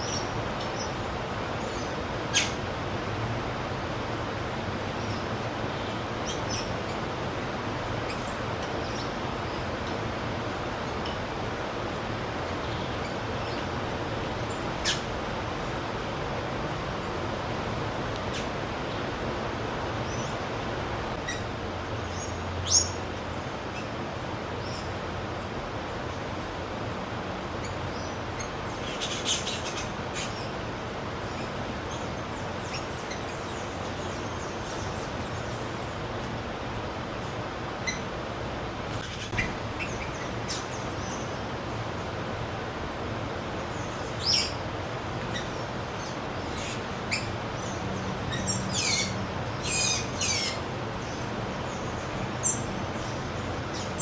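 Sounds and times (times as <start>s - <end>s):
steady background hiss: 0.0s - 54.0s
steady background hum: 0.0s - 54.0s
wild birds chirping: 0.0s - 54.0s.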